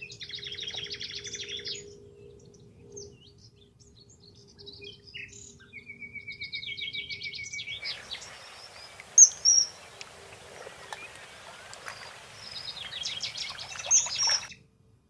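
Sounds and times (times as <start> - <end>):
wild birds calling and singing: 0.0 - 14.6.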